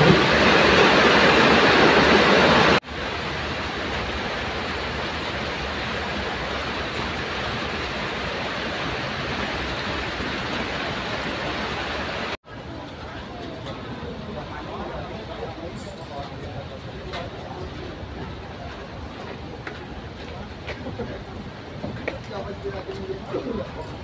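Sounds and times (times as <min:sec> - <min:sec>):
rain falling on pond: 0:00.0 - 0:24.0.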